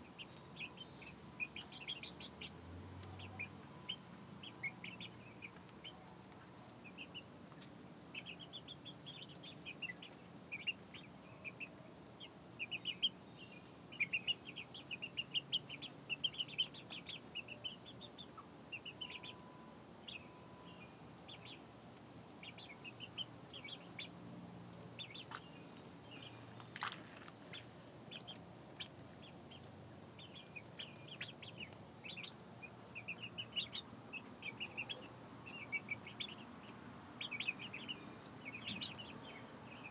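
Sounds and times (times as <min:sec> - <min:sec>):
young chickens peeping: 0:00.0 - 0:39.9.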